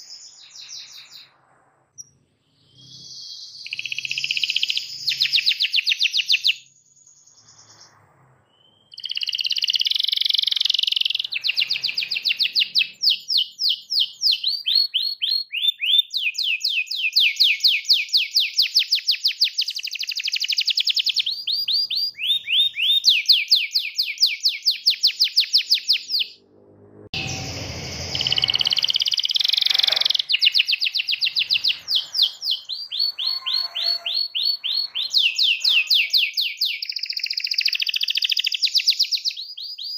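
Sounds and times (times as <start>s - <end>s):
canary singing trills: 2.0s - 26.4s, 27.2s - 39.9s.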